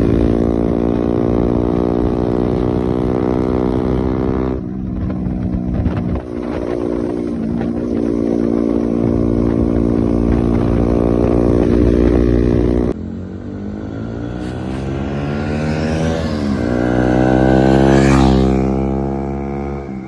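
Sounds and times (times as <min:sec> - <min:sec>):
motorcycle accelerating: 0:00.0 - 0:20.0.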